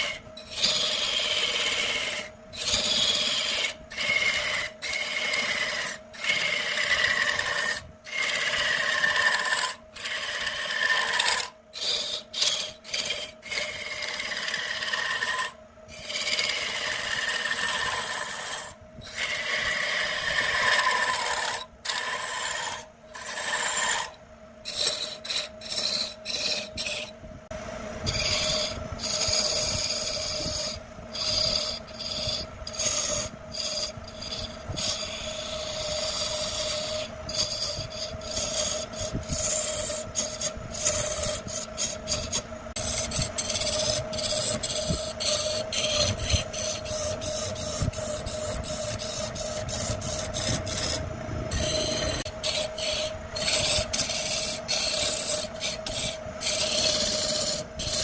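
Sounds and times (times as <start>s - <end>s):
lathe tool cutting wood: 0.0s - 27.1s, 28.1s - 58.0s
steady machine hum: 0.0s - 58.0s.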